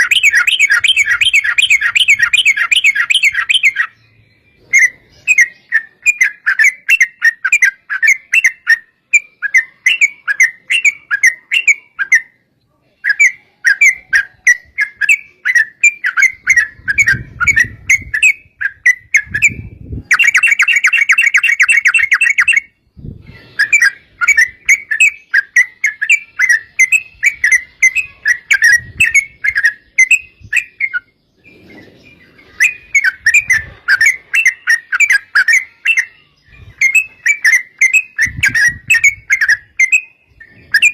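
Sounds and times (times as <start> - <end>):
bulbul bubbly chattering song: 0.0 - 4.0, 4.7 - 31.1, 32.5 - 40.9.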